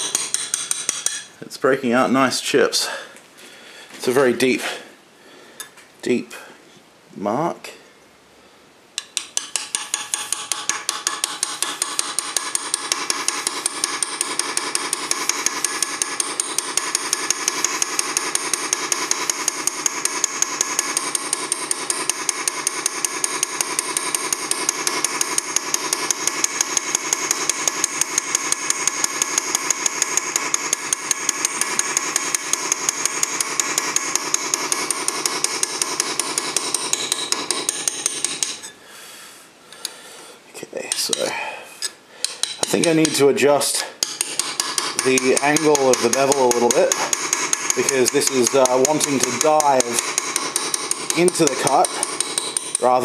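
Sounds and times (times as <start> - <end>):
hammer tapping metal graver: 0.0 - 1.4, 9.0 - 38.8, 40.9 - 53.0.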